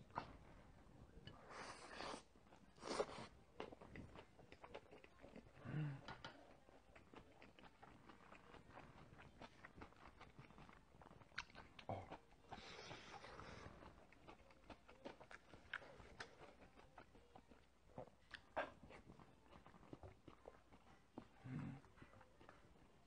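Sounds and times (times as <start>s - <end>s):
chewing: 0.1s - 23.0s.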